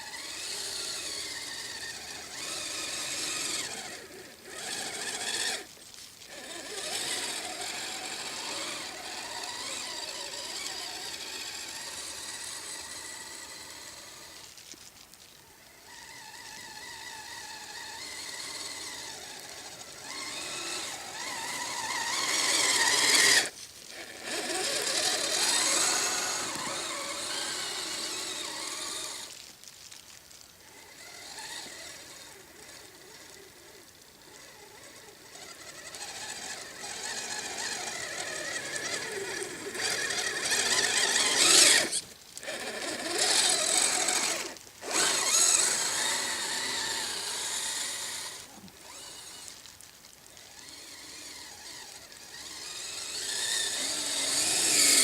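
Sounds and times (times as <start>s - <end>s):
electric motor whining: 0.0s - 14.6s, 15.5s - 29.4s, 30.6s - 55.0s.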